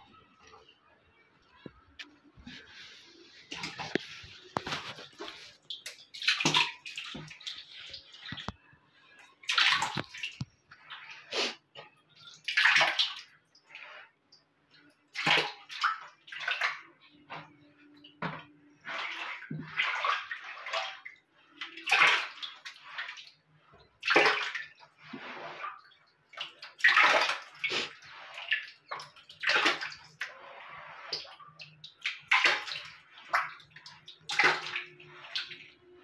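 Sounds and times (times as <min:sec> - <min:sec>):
wet cloth scrubbing in water: 0:01.6 - 0:08.5, 0:09.5 - 0:11.6, 0:14.8 - 0:36.0.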